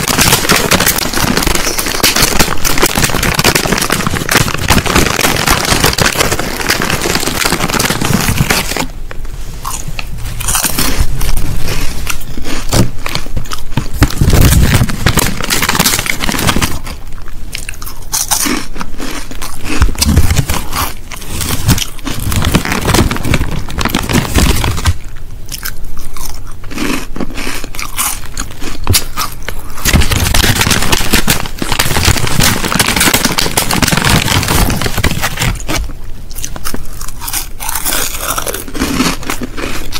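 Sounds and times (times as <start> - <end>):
crisps crunching while chewed: 0.0 - 39.9.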